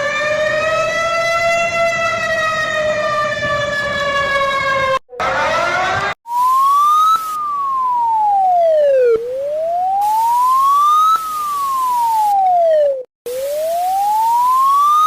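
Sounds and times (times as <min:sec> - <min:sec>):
electronic siren wailing: 0:00.0 - 0:15.0.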